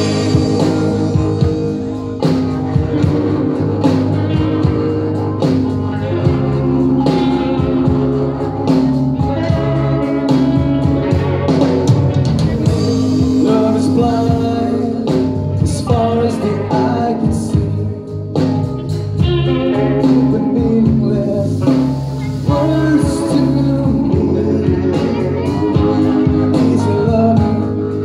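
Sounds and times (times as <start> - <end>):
live band playing pop song: 0.0 - 28.0
person singing: 0.0 - 28.0.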